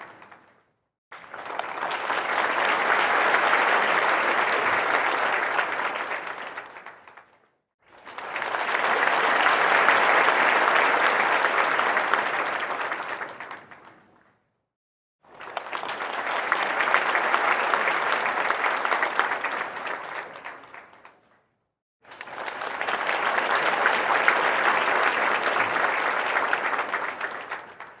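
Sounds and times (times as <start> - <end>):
crowd applause: 0.0 - 0.4, 1.2 - 7.3, 7.9 - 14.0, 15.3 - 21.2, 22.1 - 28.0.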